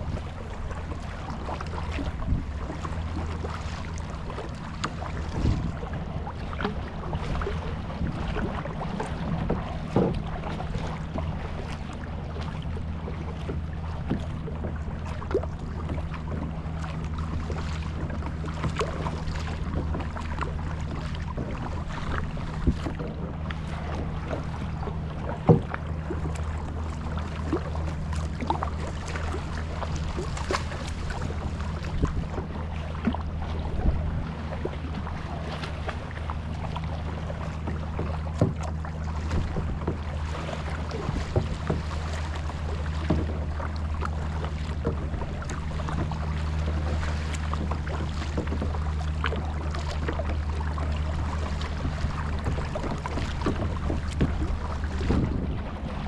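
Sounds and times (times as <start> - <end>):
paddle splashes and drips: 0.0 - 56.0
steady low hum: 0.0 - 56.0.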